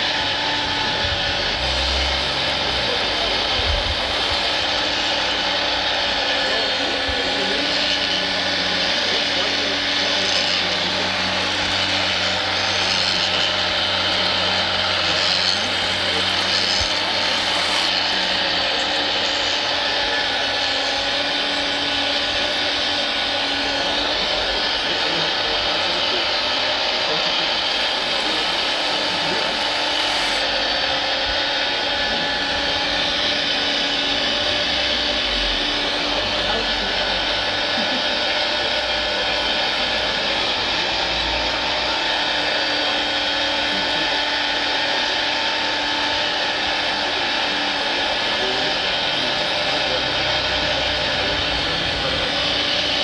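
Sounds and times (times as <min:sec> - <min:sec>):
high gear whine: 0:00.0 - 0:53.0
small electric motors whirring: 0:00.0 - 0:53.0.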